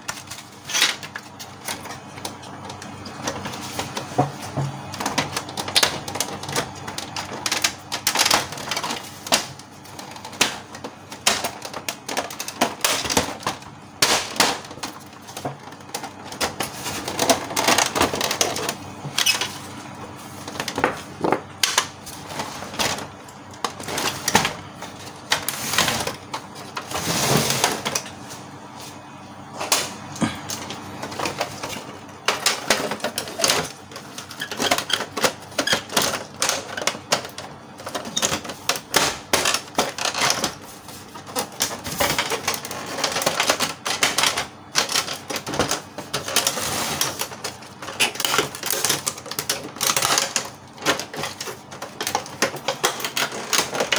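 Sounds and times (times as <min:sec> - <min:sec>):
plastic parts clicking and rattling: 0:00.0 - 0:19.8, 0:20.4 - 0:28.2, 0:29.6 - 0:53.9.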